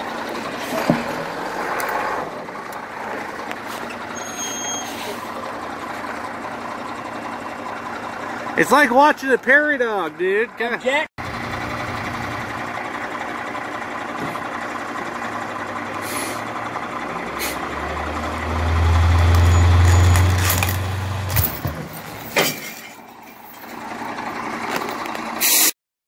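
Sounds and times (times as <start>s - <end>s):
heavy diesel truck engine: 0.0s - 25.7s.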